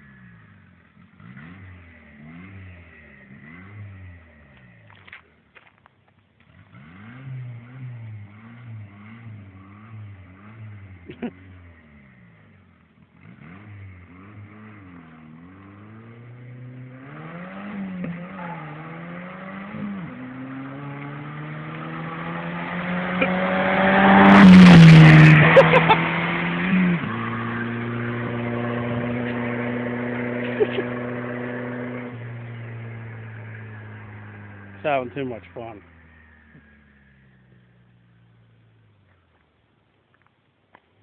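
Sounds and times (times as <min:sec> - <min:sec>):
car engine revving: 0:00.0 - 0:05.2, 0:06.4 - 0:39.0.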